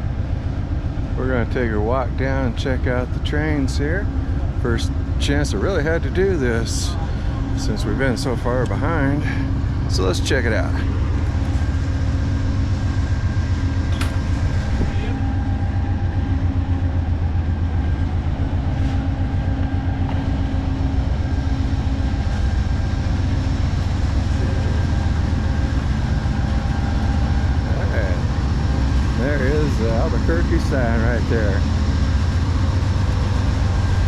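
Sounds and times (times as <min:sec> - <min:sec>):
diesel locomotive engine running: 0:00.0 - 0:34.0.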